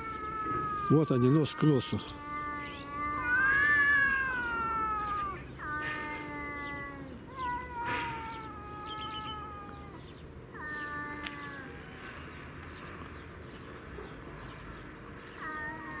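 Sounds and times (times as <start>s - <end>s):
cats yowling: 0.0s - 12.2s, 15.4s - 16.0s.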